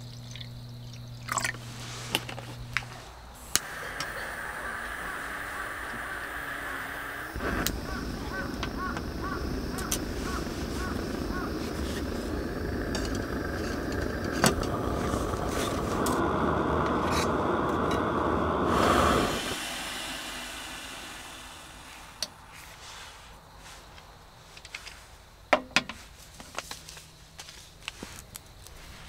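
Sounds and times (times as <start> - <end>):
camping stove burner hissing: 0.0 - 23.8.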